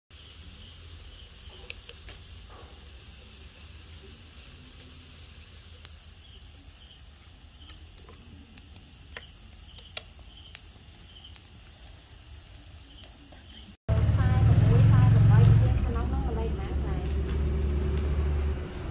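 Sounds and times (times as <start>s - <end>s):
crickets chirping: 0.1s - 18.9s.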